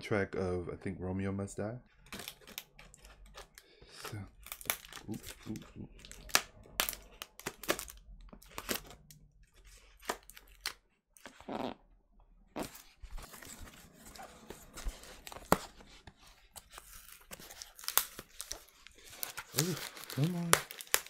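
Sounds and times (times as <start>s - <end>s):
packing tape tearing and scraping: 2.0s - 11.5s, 12.6s - 15.8s, 16.5s - 21.0s.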